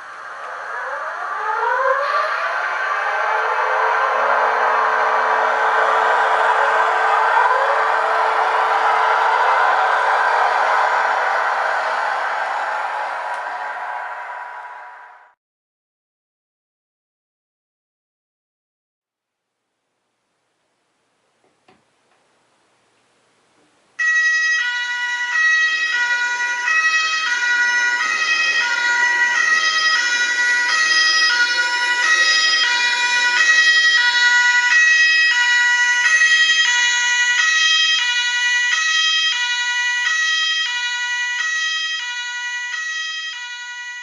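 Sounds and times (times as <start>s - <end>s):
two-tone siren: 0.0s - 15.4s, 24.0s - 44.0s.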